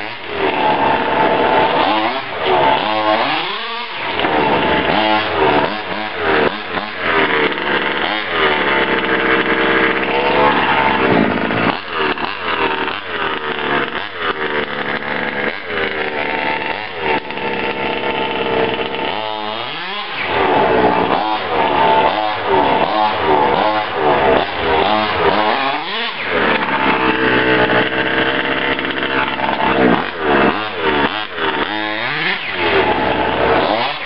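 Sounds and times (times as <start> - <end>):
two-stroke engine revving: 0.0 - 34.0.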